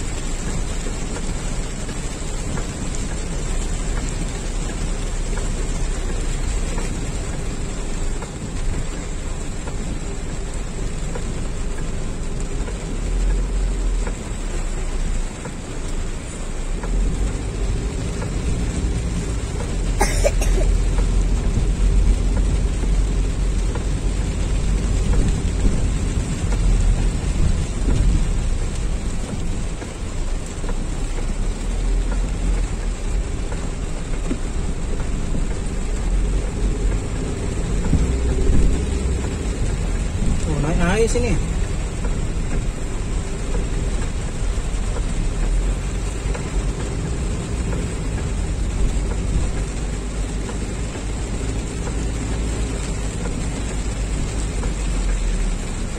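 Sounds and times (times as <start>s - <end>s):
car rumble and tyres on wet road: 0.0s - 55.9s
heavy rain on car roof: 0.0s - 55.9s.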